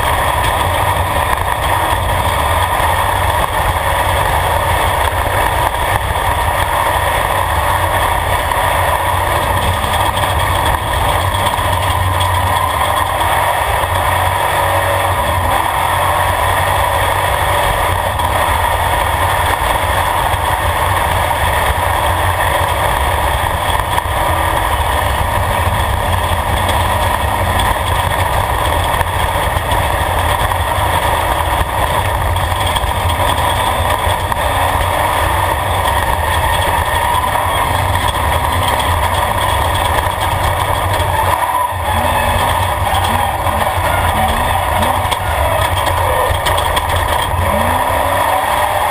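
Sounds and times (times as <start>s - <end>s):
low rumble from dirt track: 0.0s - 48.9s
race vehicle engine running hard: 0.0s - 48.9s.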